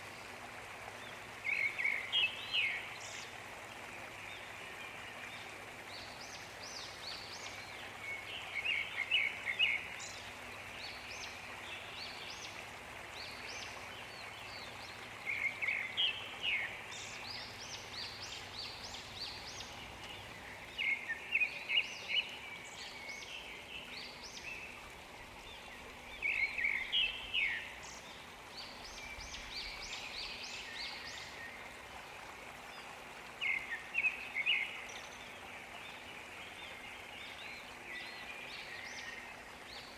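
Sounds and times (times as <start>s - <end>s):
faint birds chirping: 0.0s - 39.9s
songbird chirping phrase: 4.3s - 39.9s.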